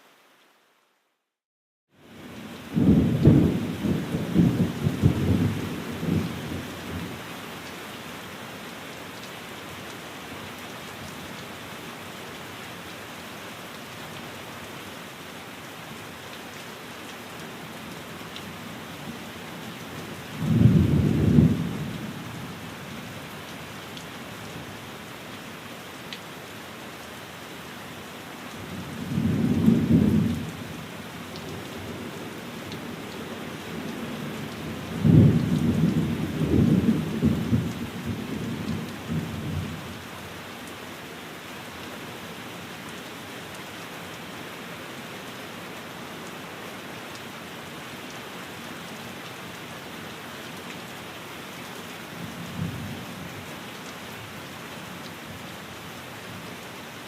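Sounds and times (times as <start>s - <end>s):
rain on a window: 2.0s - 57.0s.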